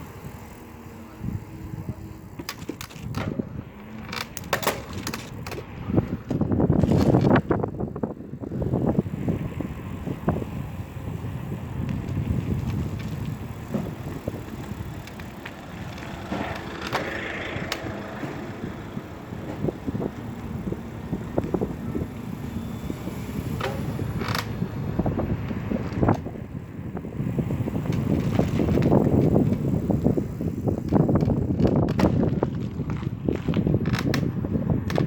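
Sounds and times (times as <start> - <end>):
bicycle rattles and clicks: 0.0 - 35.0
tyres rumbling on road: 0.0 - 35.0.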